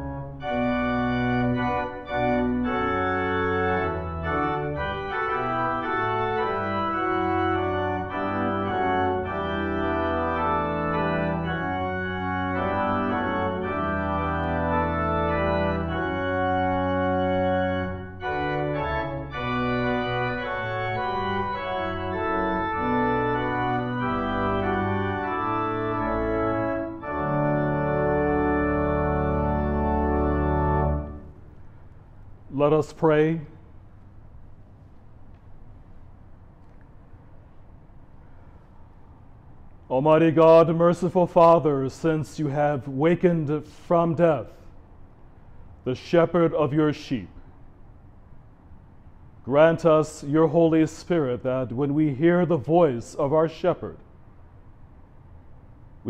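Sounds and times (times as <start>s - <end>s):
church organ chords: 0.0s - 36.8s, 38.1s - 47.8s, 48.8s - 54.0s.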